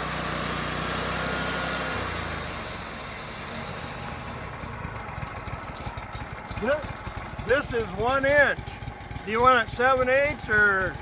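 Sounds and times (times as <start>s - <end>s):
portable sawmill engine running: 0.0s - 11.0s.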